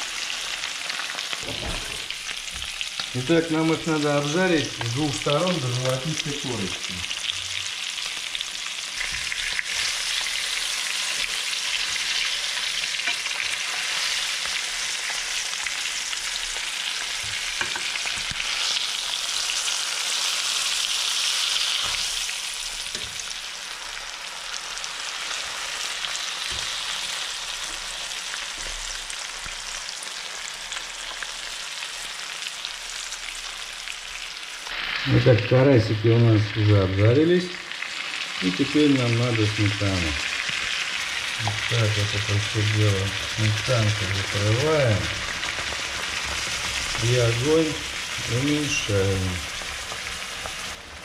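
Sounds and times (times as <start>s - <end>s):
fish frying in oil: 0.0s - 51.0s.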